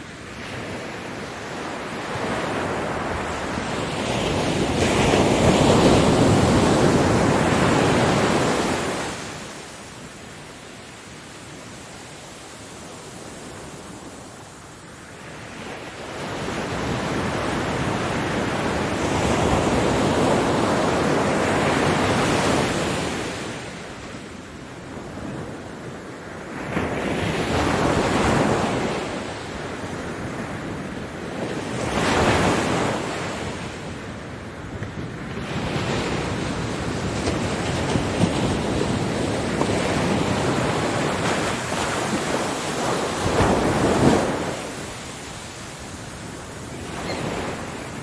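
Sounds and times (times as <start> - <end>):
ocean waves breaking on beach: 0.0 - 48.0.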